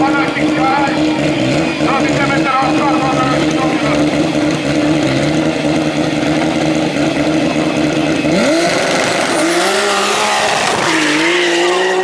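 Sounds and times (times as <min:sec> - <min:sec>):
turbocharged car engine revving: 0:00.0 - 0:12.0.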